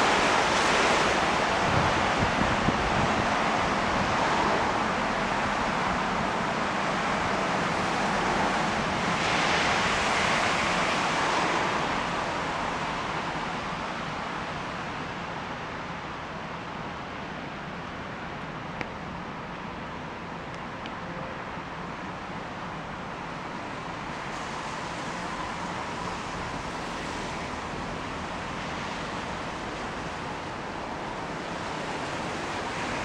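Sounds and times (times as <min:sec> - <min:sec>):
urban ambience hiss: 0:00.0 - 0:33.0.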